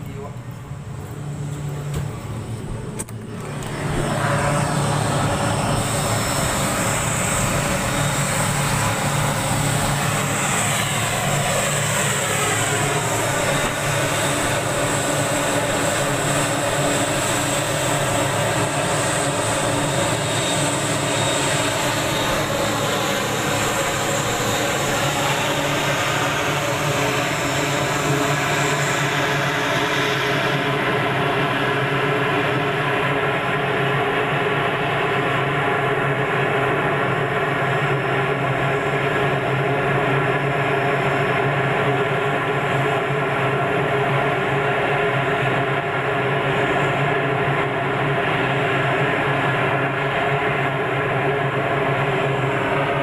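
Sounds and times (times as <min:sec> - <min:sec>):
turboprop engines taxiing: 0:00.0 - 0:53.0.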